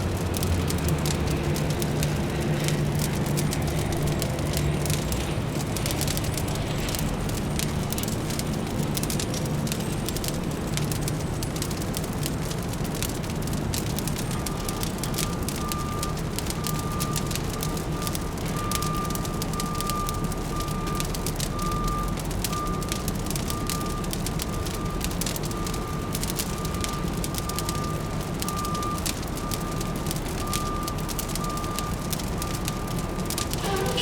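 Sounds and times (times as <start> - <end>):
city traffic rumble: 0.0 - 34.0
wood fire crackling: 0.0 - 34.0.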